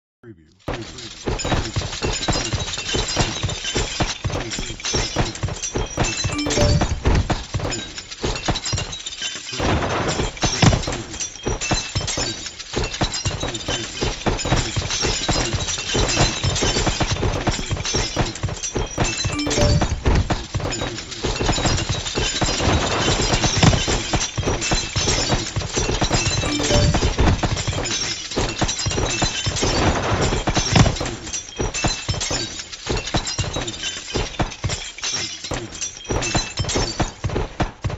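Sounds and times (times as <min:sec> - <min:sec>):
crashing shattering hits: 0:00.7 - 0:37.9.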